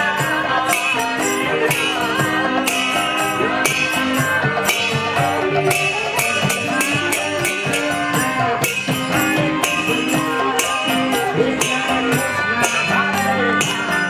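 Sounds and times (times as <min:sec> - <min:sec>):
hand cymbals striking: 0:00.0 - 0:14.0
held melodic tones: 0:00.0 - 0:14.0.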